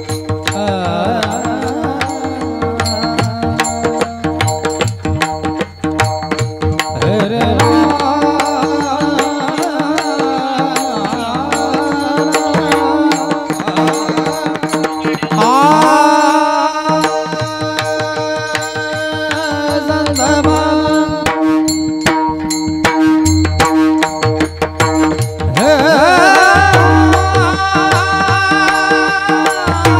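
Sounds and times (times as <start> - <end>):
tabla beating: 0.0 - 29.9.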